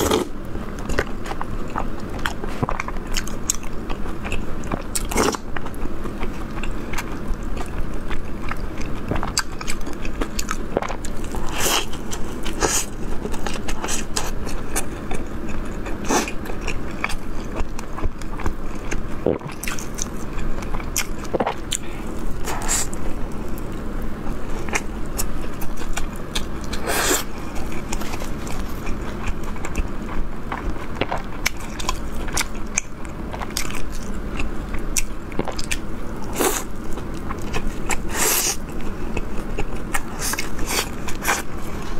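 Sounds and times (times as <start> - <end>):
wet chewing: 0.0 - 41.9
crisp bread crunching: 0.8 - 41.9.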